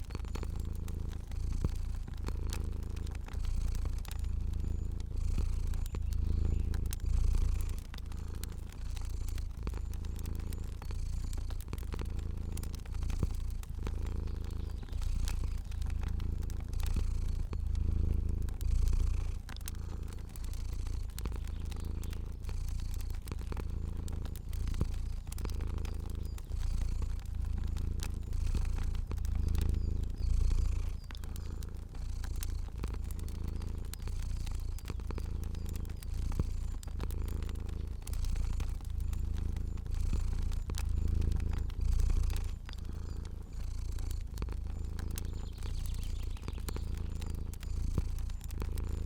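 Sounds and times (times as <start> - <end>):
cat purring: 0.0 - 49.0
fire crackling: 0.0 - 49.0.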